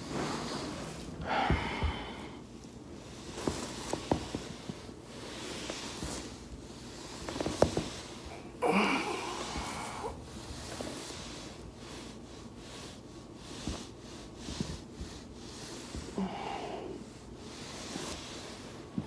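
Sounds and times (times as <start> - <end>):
foam roller rustling: 0.0 - 19.0.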